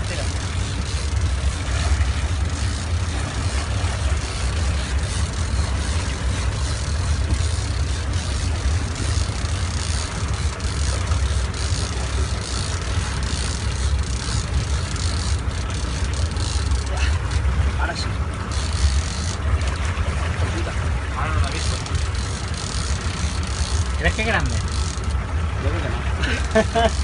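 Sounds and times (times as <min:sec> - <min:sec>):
boat engine rumbling: 0:00.0 - 0:27.0
water and wind hiss: 0:00.0 - 0:27.0.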